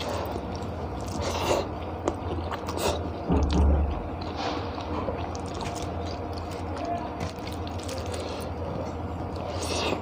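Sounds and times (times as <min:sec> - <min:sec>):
chewing and wet mouth sounds: 0:00.0 - 0:10.0.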